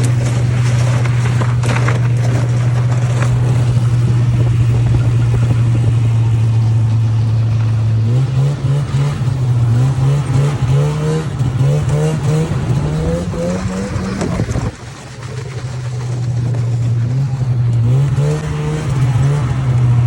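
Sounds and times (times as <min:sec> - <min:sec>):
vehicle engine revving up: 0:00.0 - 0:20.0.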